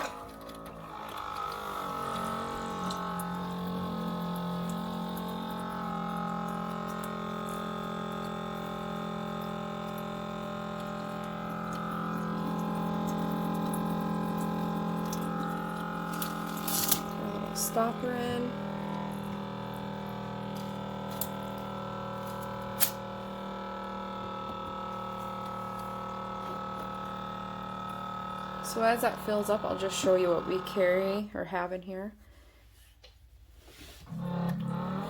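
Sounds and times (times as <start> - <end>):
water pump motor hum: 0.0 - 31.6, 33.1 - 35.0
water pouring into plastic basin: 0.3 - 30.7.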